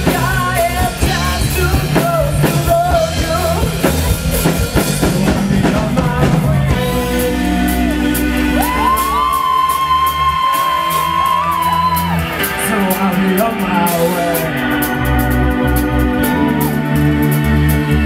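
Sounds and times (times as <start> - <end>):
drum kit: 0.0 - 18.0
live rock band playing: 0.0 - 18.0.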